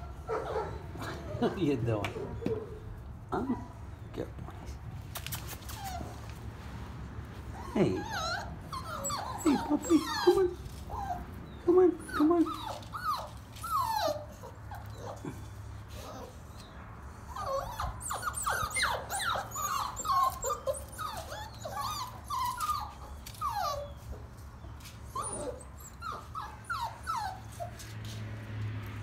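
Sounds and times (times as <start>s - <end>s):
puppies whining and yelping: 0.0s - 4.1s, 5.5s - 6.3s, 7.4s - 27.9s.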